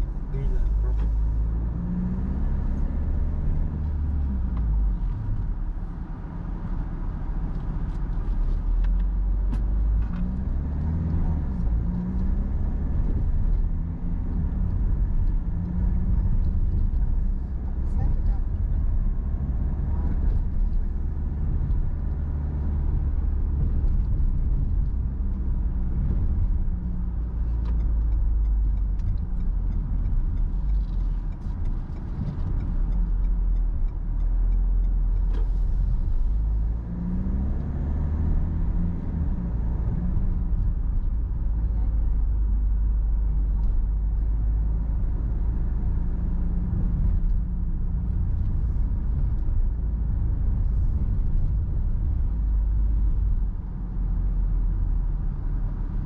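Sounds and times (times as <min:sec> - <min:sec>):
car engine: 0:00.0 - 0:56.0
road noise: 0:00.0 - 0:56.0.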